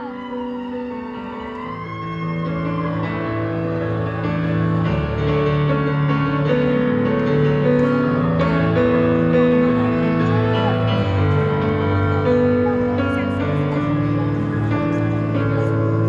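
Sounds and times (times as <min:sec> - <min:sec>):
held keyboard chords: 0:00.0 - 0:16.0.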